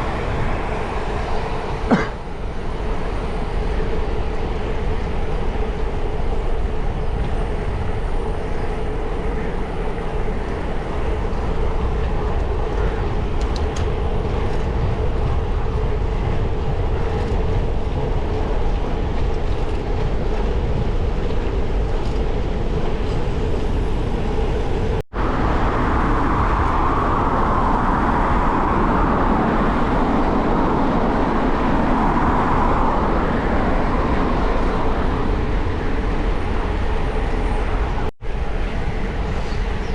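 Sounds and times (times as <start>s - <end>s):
bicycle road and wind rumble: 0.0s - 39.9s.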